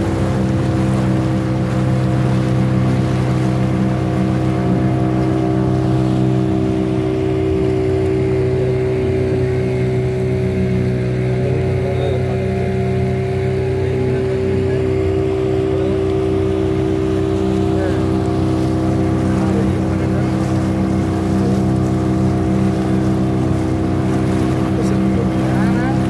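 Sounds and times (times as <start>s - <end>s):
motor boat engine running: 0.0s - 26.0s
water and wind hissing: 0.0s - 26.0s.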